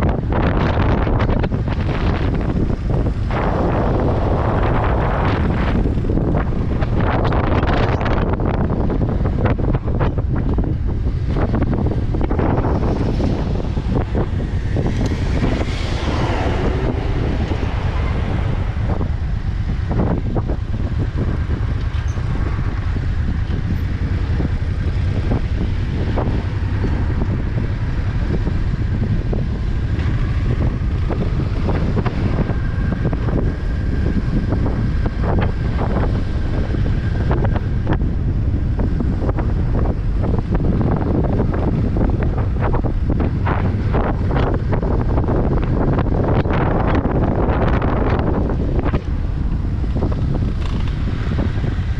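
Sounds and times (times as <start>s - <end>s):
wind buffeting a microphone: 0.0s - 51.9s.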